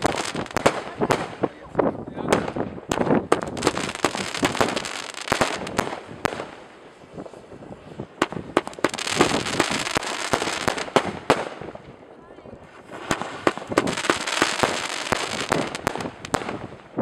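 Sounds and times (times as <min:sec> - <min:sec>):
fireworks bangs: 0:00.0 - 0:17.0
fireworks hissing and crackling: 0:00.0 - 0:17.0.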